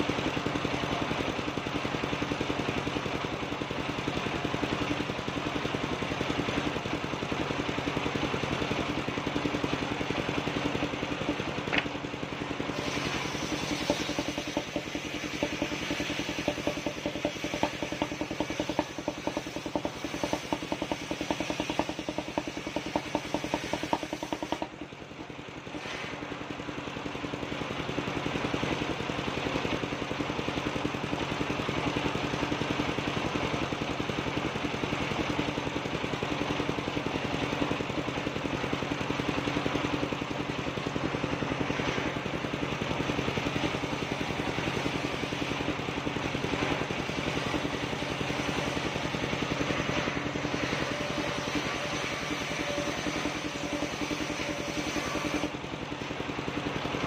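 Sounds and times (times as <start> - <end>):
sawmill engine and saw: 0.0 - 57.0.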